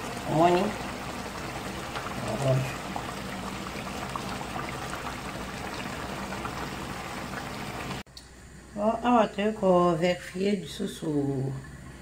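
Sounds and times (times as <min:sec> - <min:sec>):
stew boiling and bubbling: 0:00.0 - 0:08.7, 0:10.0 - 0:12.0.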